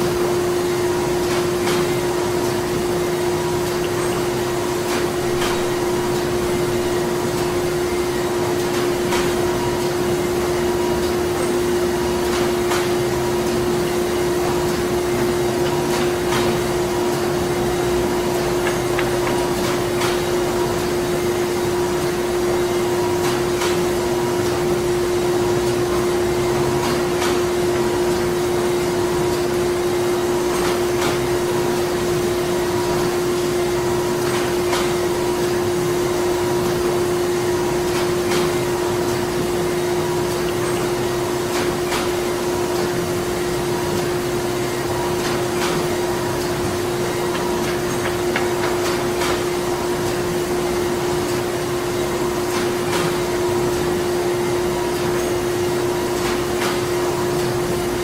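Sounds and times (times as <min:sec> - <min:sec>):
printing machinery humming: 0:00.0 - 0:58.0.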